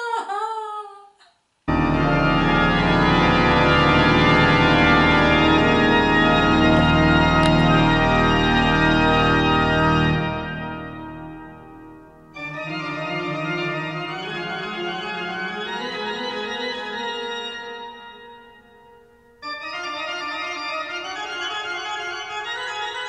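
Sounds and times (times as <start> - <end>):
music of long held chords: 1.7 - 23.0.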